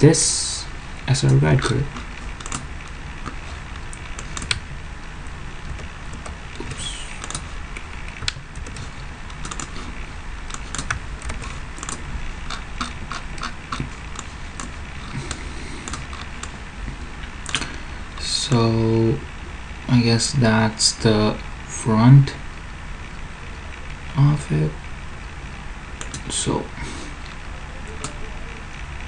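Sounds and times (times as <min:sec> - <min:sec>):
low background noise: 0:00.0 - 0:29.0.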